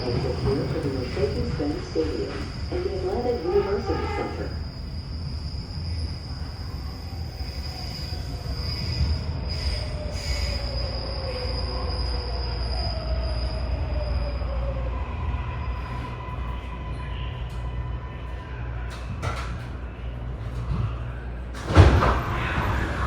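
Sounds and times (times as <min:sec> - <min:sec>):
train wheel squeal: 0:00.0 - 0:19.6.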